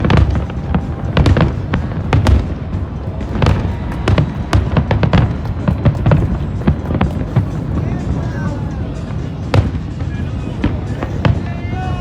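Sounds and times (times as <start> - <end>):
fireworks bursting: 0.0 - 12.0
music playing: 0.0 - 12.0.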